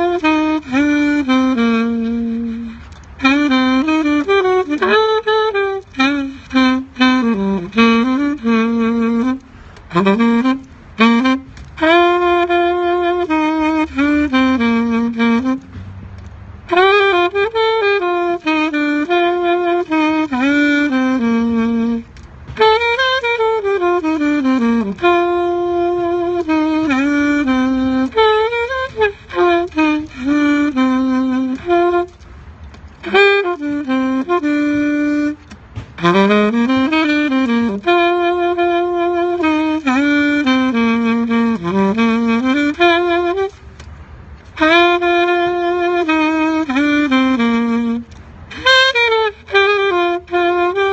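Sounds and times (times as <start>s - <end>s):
solo saxophone hymn melody: 0.0s - 50.9s.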